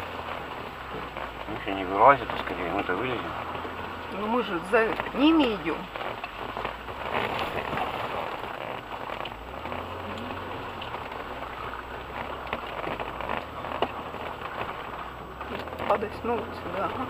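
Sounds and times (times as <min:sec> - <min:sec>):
mud splattering against wheel arches: 0:00.0 - 0:17.0
tyres churning through mud: 0:00.0 - 0:17.0.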